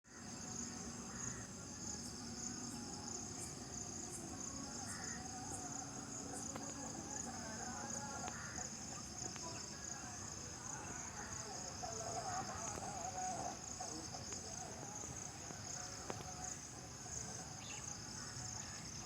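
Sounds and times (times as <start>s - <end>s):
insects chirring: 0.1s - 19.0s.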